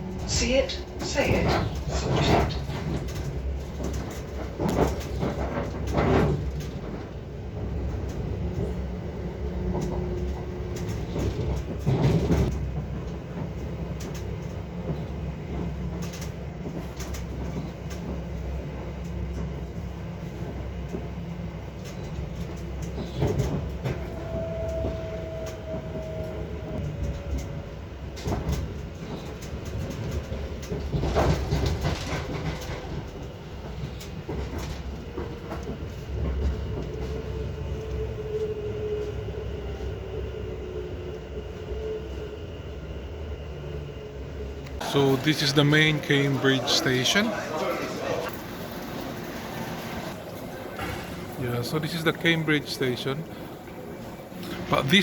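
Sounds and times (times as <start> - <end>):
train rolling on rails: 0.0 - 55.0.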